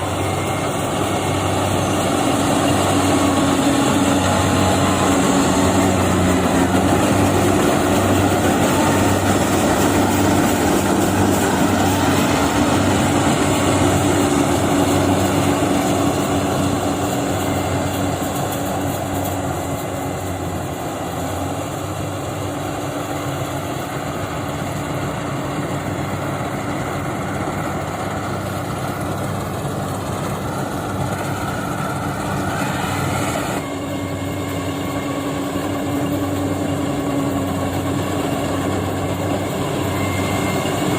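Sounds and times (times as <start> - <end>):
combine harvester engine hum: 0.0 - 40.9
machinery noise: 0.0 - 40.9.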